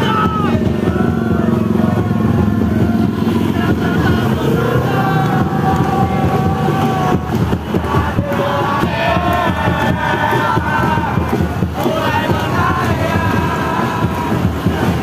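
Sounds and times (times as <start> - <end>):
bus and motorbike engines: 0.0 - 15.0
people shouting: 0.0 - 15.0.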